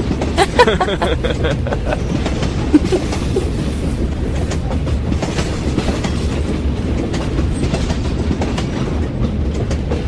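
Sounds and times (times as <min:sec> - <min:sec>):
subway wheels rumbling on rails: 0:00.0 - 0:10.0.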